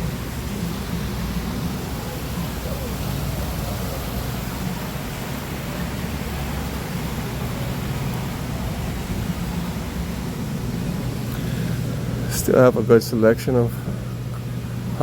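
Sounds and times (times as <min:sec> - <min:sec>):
low unsteady rumble: 0:00.0 - 0:15.0
steady rushing noise: 0:00.0 - 0:15.0.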